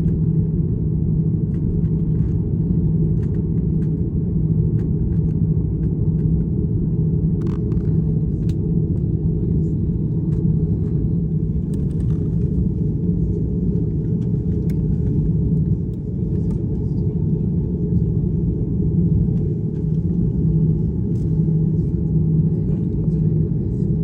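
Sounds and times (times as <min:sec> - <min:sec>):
aircraft cabin rumble: 0:00.0 - 0:24.0.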